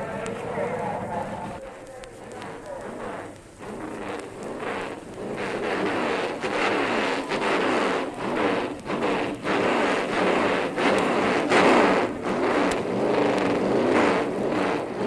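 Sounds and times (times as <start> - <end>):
drag racing car engine revving: 0.0 - 15.0.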